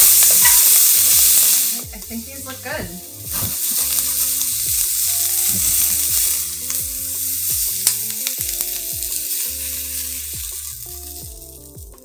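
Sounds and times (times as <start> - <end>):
pepper strips sizzling in skillet: 0.0 - 12.0.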